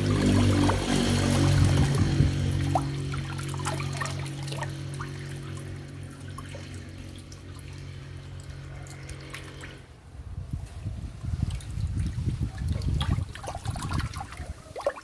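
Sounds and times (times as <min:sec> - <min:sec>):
fish splashing: 0:00.0 - 0:09.8, 0:11.5 - 0:15.0
water splashing and trickling: 0:00.0 - 0:15.0.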